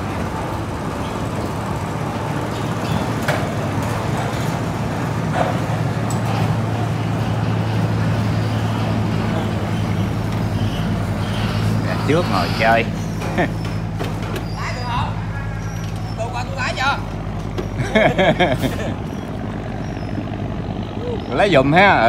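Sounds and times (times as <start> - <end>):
motorboat engine humming: 0.0 - 22.0.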